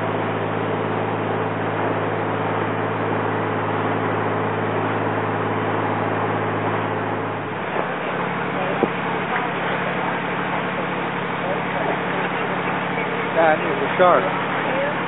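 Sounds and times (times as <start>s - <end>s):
boat engine droning: 0.0s - 15.0s
rush of wind and water: 0.0s - 15.0s.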